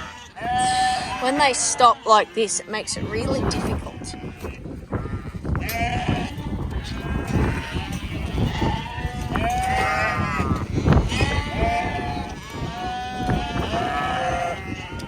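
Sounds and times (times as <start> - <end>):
sheep and lambs bleating: 0.0 - 15.0.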